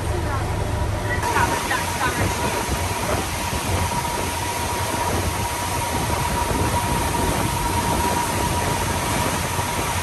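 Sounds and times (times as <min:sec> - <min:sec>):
boat engine droning: 0:00.0 - 0:10.0
thin steady whine: 0:00.0 - 0:10.0
water rushing in wake: 0:00.0 - 0:10.0.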